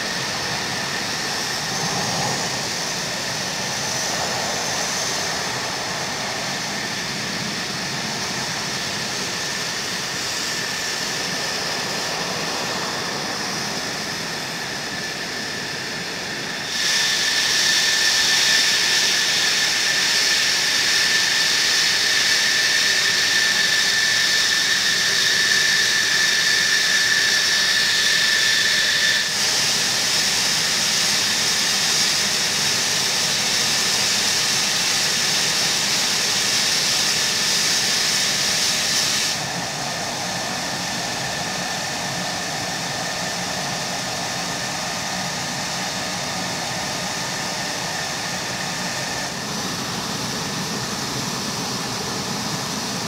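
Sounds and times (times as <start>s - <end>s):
jet engine running: 0.0s - 53.0s.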